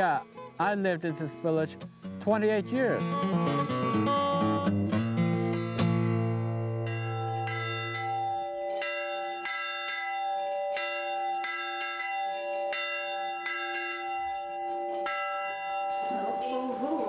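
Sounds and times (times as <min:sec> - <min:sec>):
tower bell ringing: 0:02.4 - 0:17.0.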